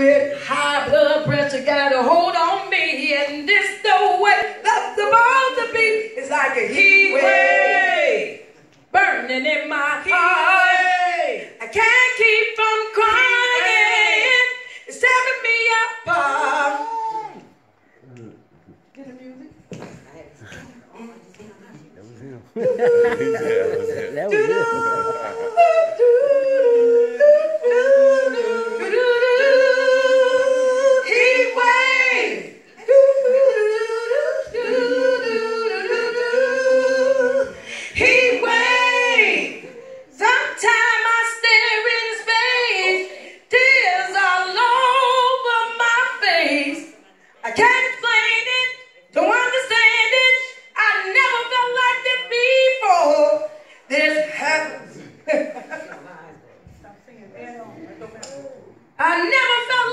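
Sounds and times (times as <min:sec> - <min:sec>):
women singing: 0:00.0 - 0:17.6, 0:22.6 - 0:55.3, 0:59.0 - 0:59.9.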